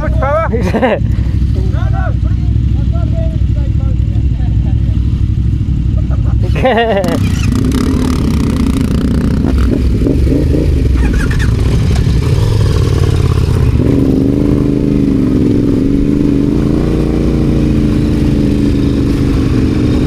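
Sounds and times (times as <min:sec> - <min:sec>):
motorcycle engine revving: 0:00.8 - 0:20.0.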